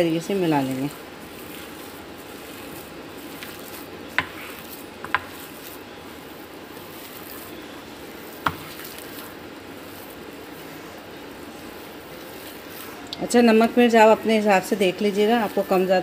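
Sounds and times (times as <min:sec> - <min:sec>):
hand squishing food in bowl: 0:00.1 - 0:13.2.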